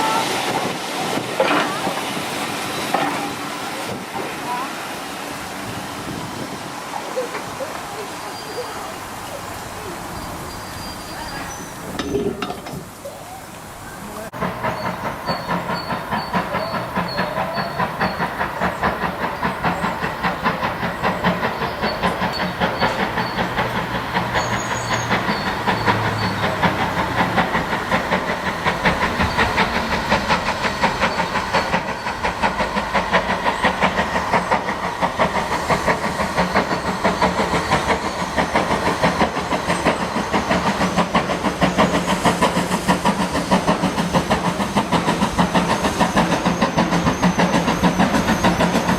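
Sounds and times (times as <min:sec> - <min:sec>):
steam engine exhaust beats: 0:00.0 - 0:48.9
steam hissing: 0:00.0 - 0:48.9.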